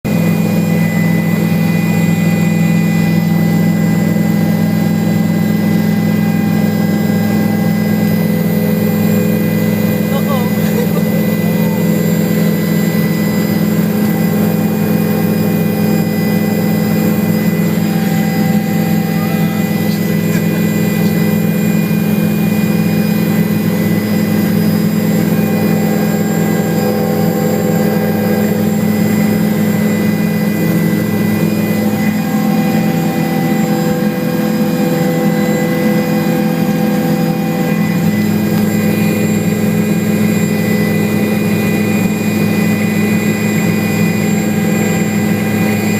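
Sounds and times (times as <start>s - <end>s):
constant whining tones: 0.1s - 45.9s
helicopter rotors droning: 0.1s - 45.9s.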